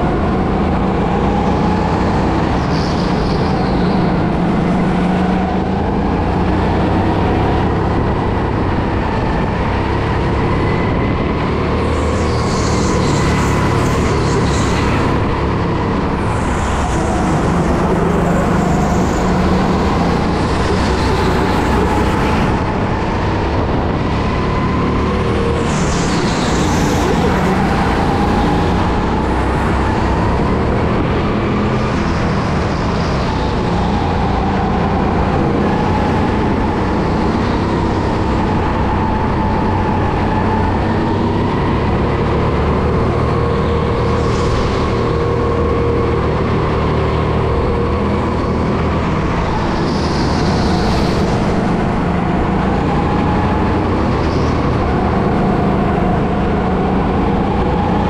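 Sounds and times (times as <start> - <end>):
go-kart motor drone: 0.0 - 58.0.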